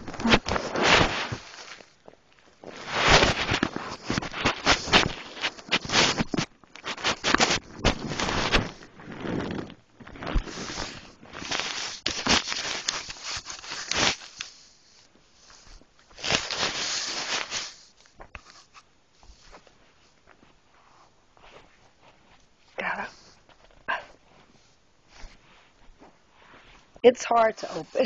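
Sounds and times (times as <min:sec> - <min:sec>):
microphone rubbing against bedding: 0:00.0 - 0:02.0, 0:02.6 - 0:27.0.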